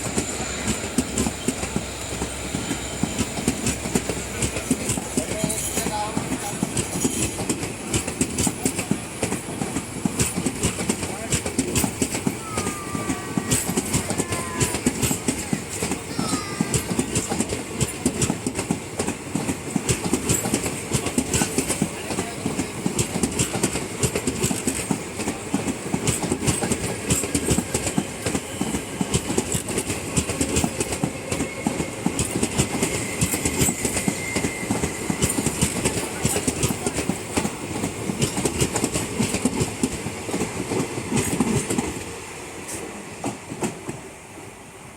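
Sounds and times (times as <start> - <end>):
train wheels clattering over rail joints: 0.0 - 44.0.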